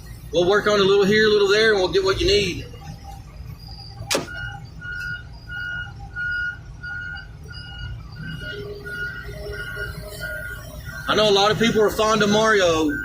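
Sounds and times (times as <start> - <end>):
backup alarm beeping: 0.0 - 13.0.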